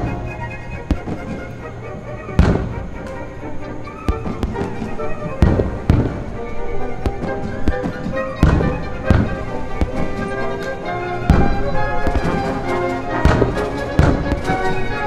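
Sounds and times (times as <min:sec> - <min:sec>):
fireworks booming: 0:00.0 - 0:15.0
fireworks crackling: 0:00.0 - 0:15.0
orchestral music: 0:00.0 - 0:15.0.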